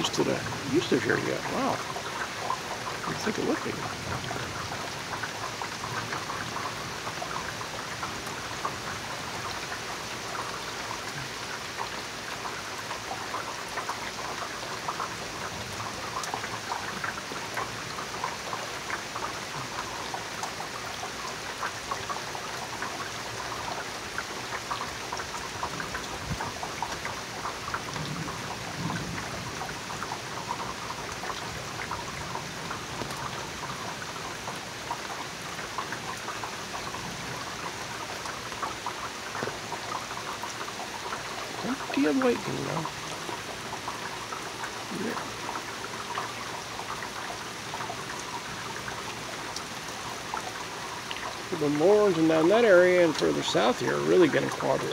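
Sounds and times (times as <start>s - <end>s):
steady rain falling: 0.0s - 54.9s
water drips and splashes: 0.0s - 54.9s.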